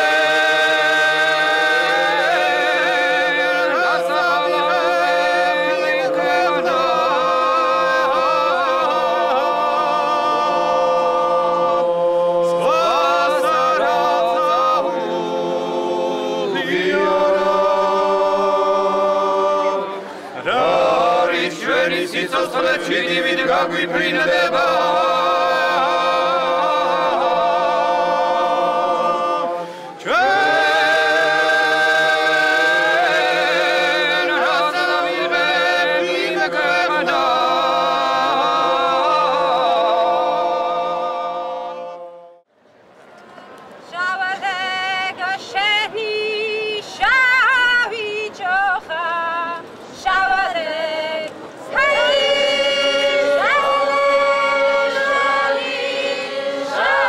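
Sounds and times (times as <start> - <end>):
men singing a cappella in parts: 0.0 - 42.4, 50.0 - 57.0.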